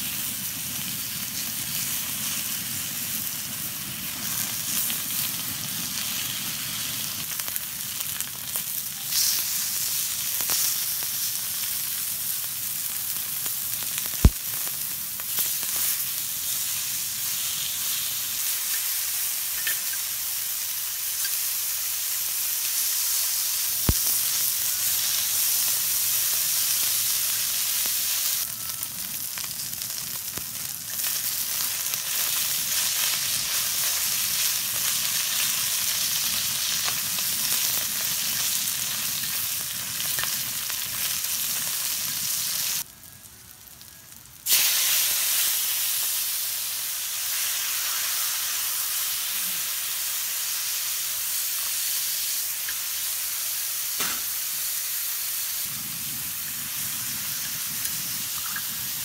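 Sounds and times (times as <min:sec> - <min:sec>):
pork belly sizzling on a griddle: 0:00.0 - 0:59.0.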